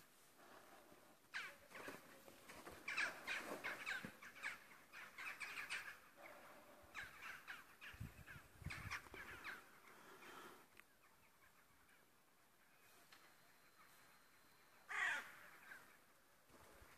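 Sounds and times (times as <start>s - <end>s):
faint crows cawing: 1.2s - 16.9s.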